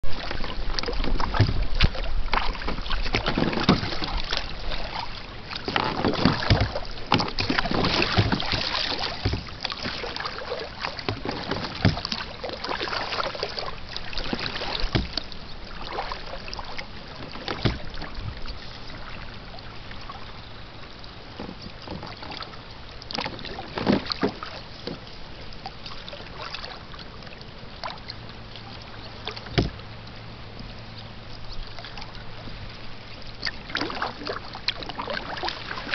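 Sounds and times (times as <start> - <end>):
kayak paddle strokes: 0.0 - 35.9
water splashing around hull: 0.0 - 35.9.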